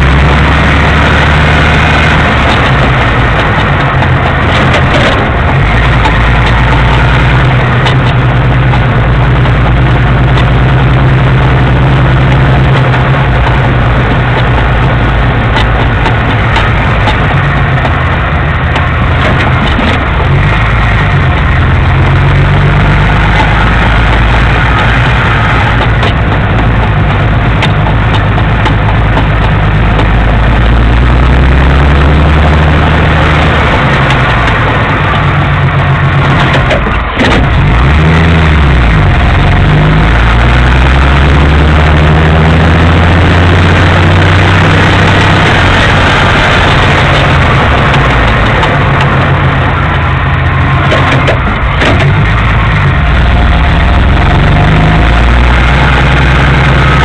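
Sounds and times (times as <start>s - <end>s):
car engine running loudly: 0.0s - 57.0s.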